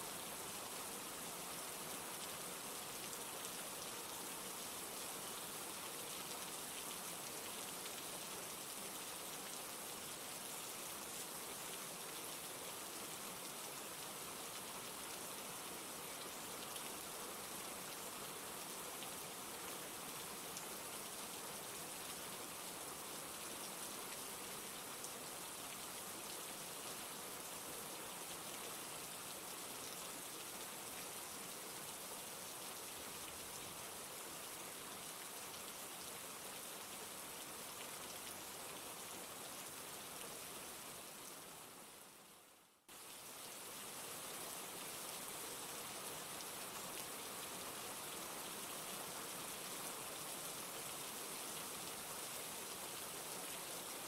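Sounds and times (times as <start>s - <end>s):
steady dense rain: 0.0s - 54.0s.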